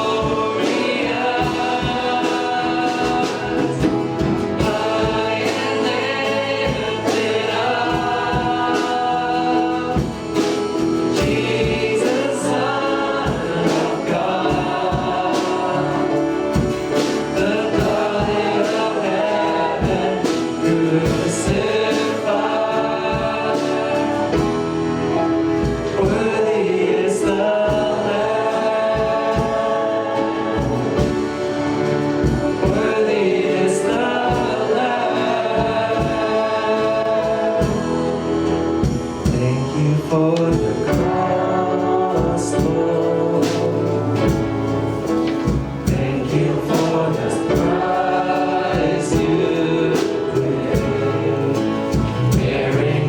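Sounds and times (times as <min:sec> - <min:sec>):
band with drums: 0:00.0 - 0:53.0
group of voices singing: 0:00.0 - 0:53.0.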